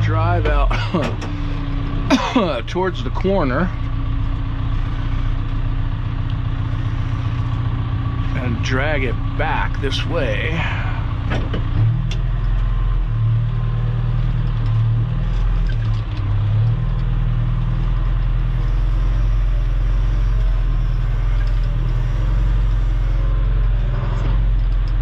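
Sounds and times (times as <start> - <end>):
earthmoving machine engine droning: 0.0 - 25.0.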